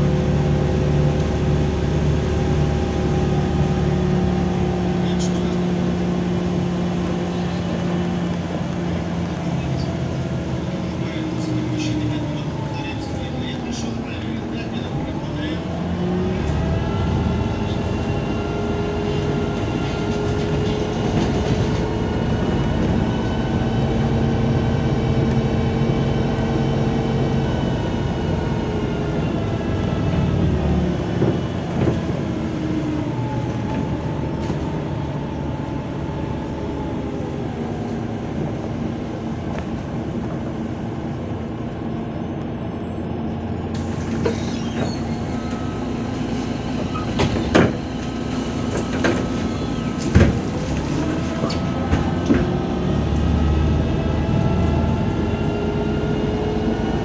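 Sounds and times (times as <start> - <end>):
bus engine whine: 0.0 - 57.0
low engine rumble: 0.0 - 57.0.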